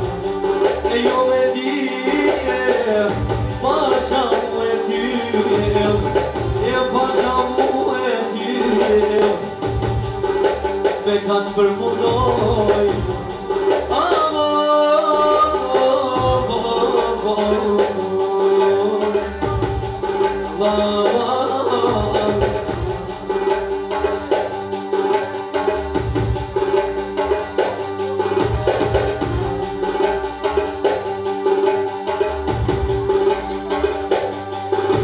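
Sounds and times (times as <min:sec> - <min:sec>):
drum beats: 0:00.0 - 0:35.0
plucked string melody: 0:00.0 - 0:35.0.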